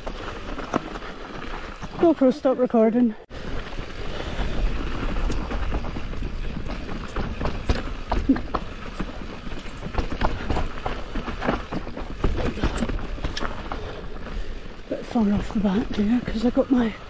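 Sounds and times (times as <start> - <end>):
mountain bike rattling on trail: 0.0 - 17.0.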